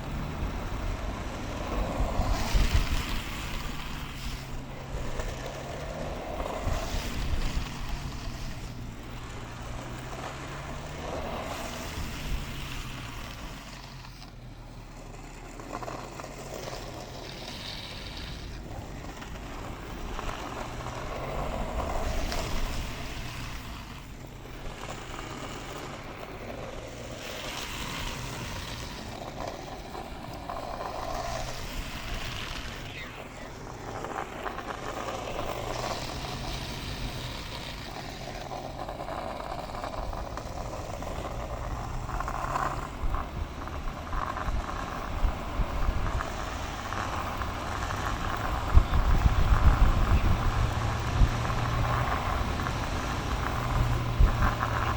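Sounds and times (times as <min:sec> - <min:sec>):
wind rushing over microphone: 0:00.0 - 0:10.0, 0:17.4 - 0:54.9
skateboard wheels rolling on asphalt: 0:00.0 - 0:54.9.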